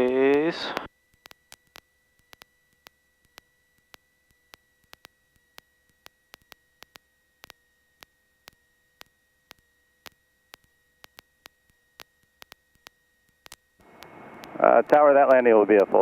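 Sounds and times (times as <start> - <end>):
faint irregular clicks: 0.0 - 16.0.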